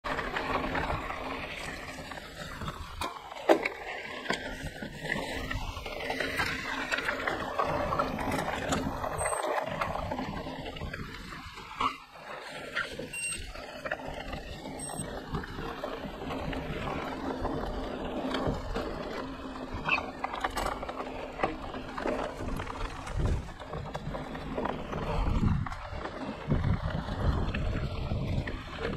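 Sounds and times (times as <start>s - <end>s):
mountain bike rolling on dirt: 0.0s - 28.9s.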